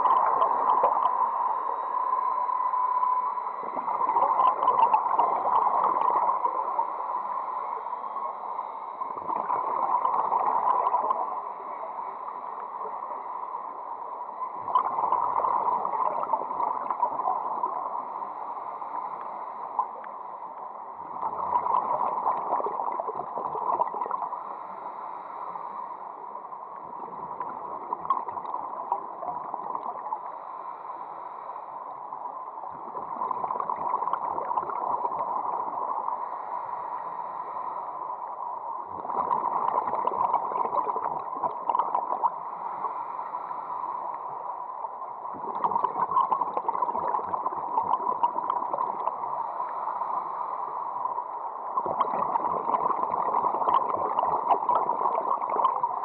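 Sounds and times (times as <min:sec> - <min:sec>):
muffled underwater bubbling: 0:00.0 - 0:20.2, 0:20.9 - 0:24.6, 0:26.8 - 0:30.4, 0:32.6 - 0:36.4, 0:38.7 - 0:44.4, 0:45.0 - 0:50.4, 0:51.2 - 0:56.0
underwater water rush: 0:00.0 - 0:56.0.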